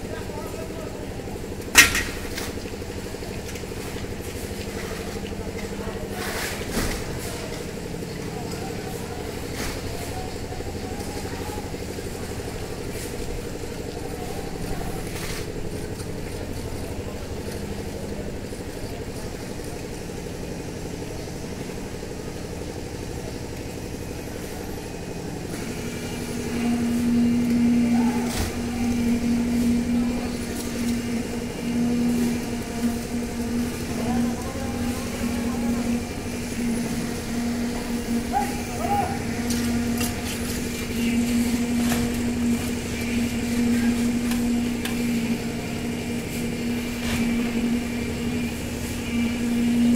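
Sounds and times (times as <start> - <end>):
loud steady hum: 0.0 - 49.9
small engine running: 0.0 - 49.9.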